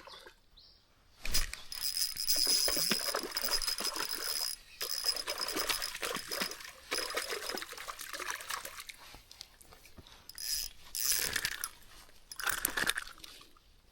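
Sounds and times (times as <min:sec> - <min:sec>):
water splashing and sloshing: 0:00.0 - 0:00.5, 0:01.2 - 0:13.6.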